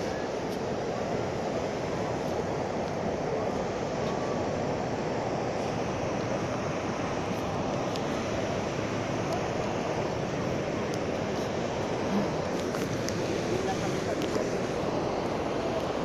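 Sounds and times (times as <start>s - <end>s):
sea surf breaking on beach: 0.0s - 16.0s
wind: 0.0s - 16.0s.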